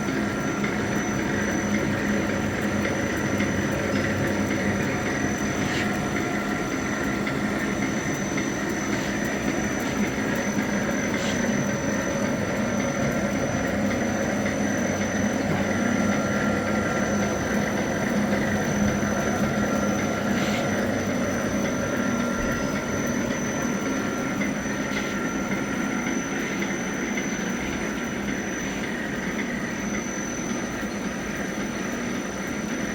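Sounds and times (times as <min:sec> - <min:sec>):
machine whine: 0:00.0 - 0:32.9
printing machine drone: 0:00.0 - 0:32.9.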